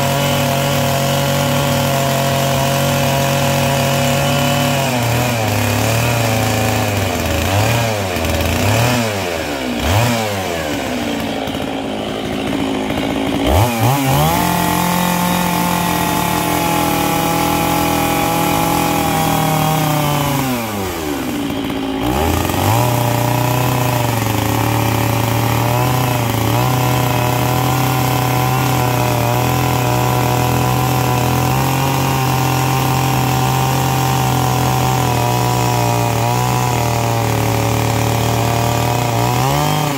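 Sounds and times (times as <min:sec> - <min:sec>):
chainsaw cutting log: 0:00.0 - 0:39.9
chainsaw engine revving: 0:00.0 - 0:39.9.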